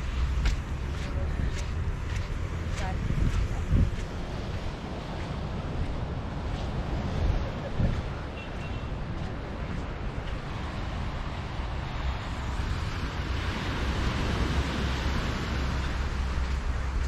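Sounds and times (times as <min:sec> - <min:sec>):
ocean surf washing on shore: 0:00.0 - 0:17.0
wind buffeting microphone: 0:00.0 - 0:17.0.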